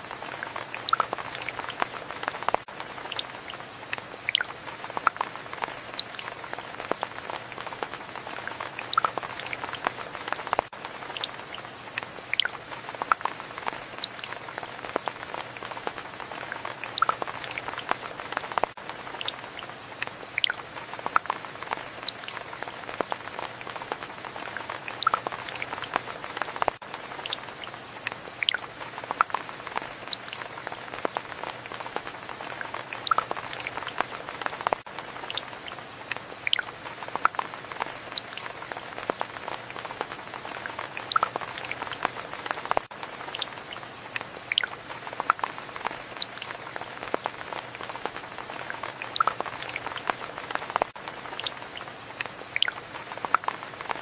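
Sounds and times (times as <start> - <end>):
raindrops tapping close by: 0.0 - 54.0
steady rain hiss: 0.0 - 54.0.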